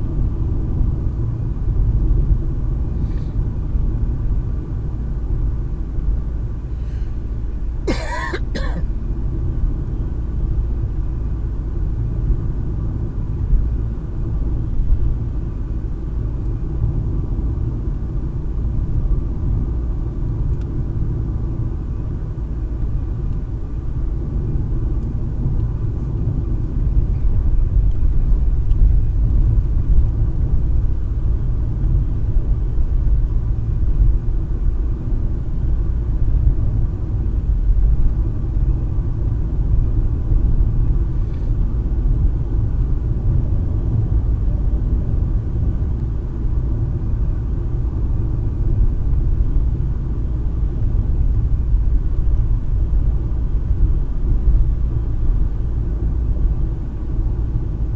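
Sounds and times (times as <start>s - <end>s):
car driving on road: 0.0s - 57.9s.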